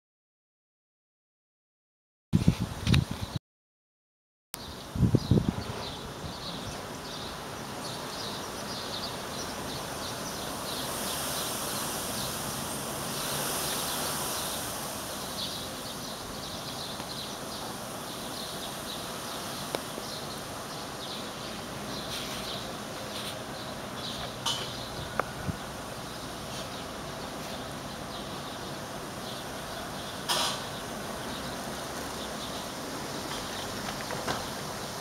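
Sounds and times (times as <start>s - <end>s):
small birds chirping: 4.6s - 35.0s
steady background noise: 4.6s - 35.0s
high hiss: 5.8s - 35.0s.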